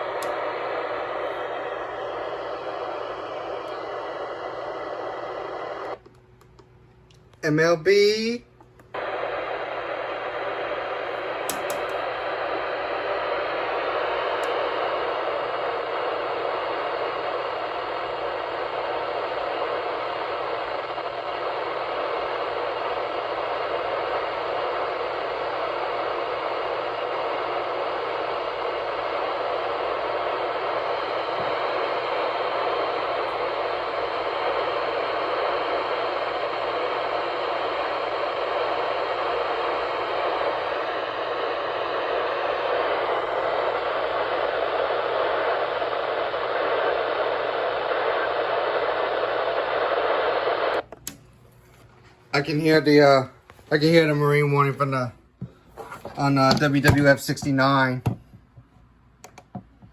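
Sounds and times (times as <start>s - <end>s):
radio static hiss: 0.0s - 6.0s, 7.4s - 50.9s, 52.3s - 58.3s.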